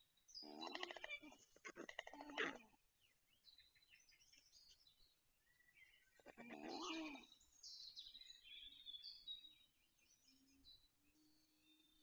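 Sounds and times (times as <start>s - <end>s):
faint songbird chirps and trills: 0.0s - 12.0s.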